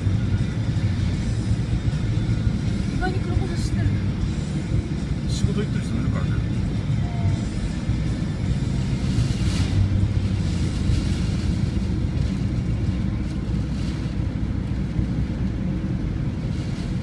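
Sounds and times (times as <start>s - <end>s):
car driving cabin rumble: 0.0s - 17.0s.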